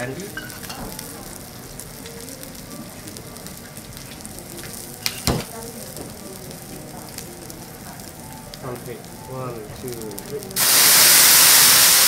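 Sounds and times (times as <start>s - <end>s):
steak sizzling on griddle: 0.0s - 12.0s.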